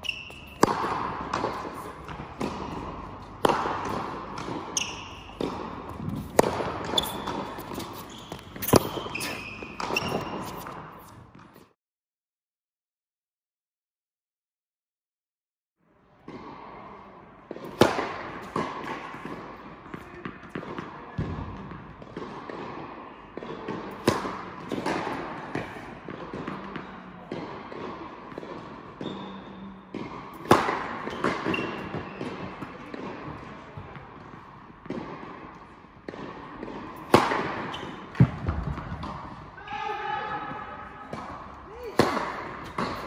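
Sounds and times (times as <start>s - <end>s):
tennis ball bouncing: 0.0s - 11.6s, 17.5s - 39.5s, 41.0s - 43.0s
tennis ball struck by racket: 0.0s - 11.6s, 17.5s - 29.2s, 29.9s - 39.4s, 41.0s - 43.0s.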